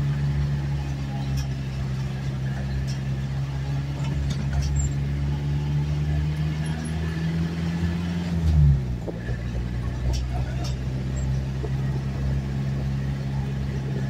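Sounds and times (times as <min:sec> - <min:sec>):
road noise: 0:00.0 - 0:14.0
vehicle engine droning: 0:00.0 - 0:14.0.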